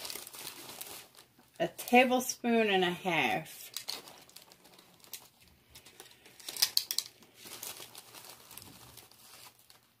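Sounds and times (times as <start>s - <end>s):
plastic packaging crinkling: 0.0s - 2.2s, 3.2s - 10.0s.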